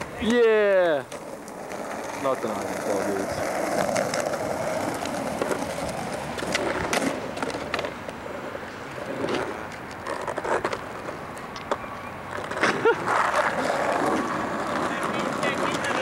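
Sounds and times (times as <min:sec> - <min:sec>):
skateboard clattering on pavement: 0:00.0 - 0:16.0
skateboard wheels rolling on asphalt: 0:00.0 - 0:16.0.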